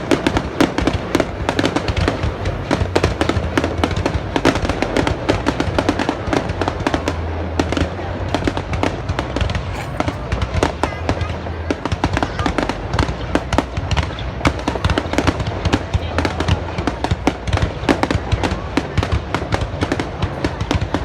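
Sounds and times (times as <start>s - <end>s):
fireworks popping and banging: 0.0s - 21.0s.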